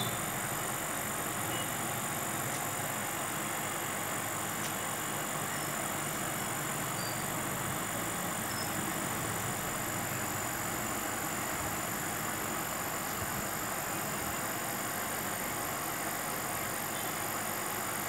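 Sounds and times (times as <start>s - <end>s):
faint high whine: 0.0s - 18.0s
machine running noise: 0.0s - 18.0s.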